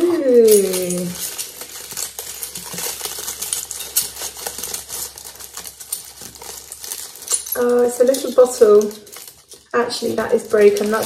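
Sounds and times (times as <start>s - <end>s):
wrapping paper crackling: 0.0s - 11.0s.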